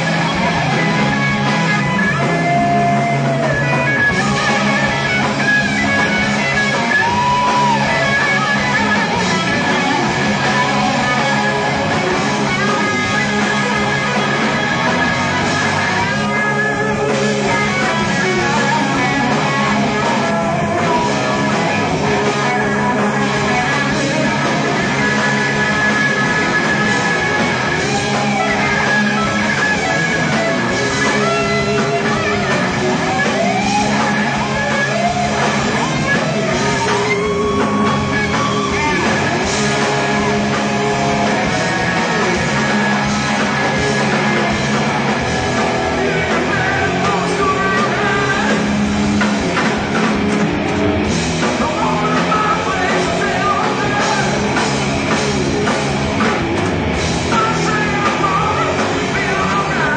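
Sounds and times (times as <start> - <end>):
drum kit: 0.0 - 59.9
electric guitar: 0.0 - 59.9
person singing: 6.0 - 42.8, 43.4 - 48.9, 51.4 - 54.8, 57.2 - 59.9.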